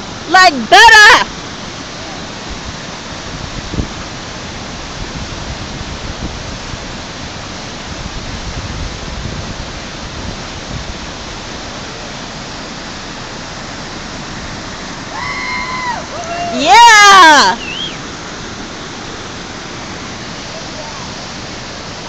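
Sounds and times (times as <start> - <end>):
river rapid rushing: 0.0 - 22.0.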